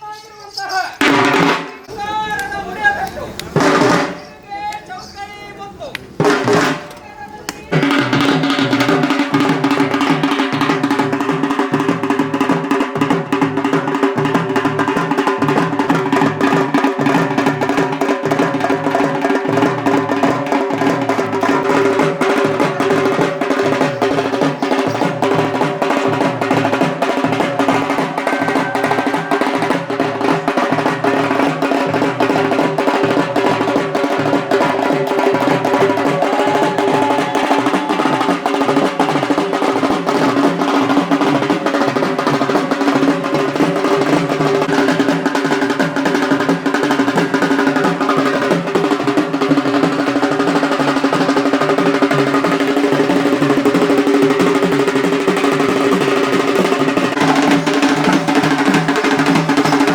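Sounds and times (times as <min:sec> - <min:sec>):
music with fast percussion beat: 0:00.5 - 0:59.9.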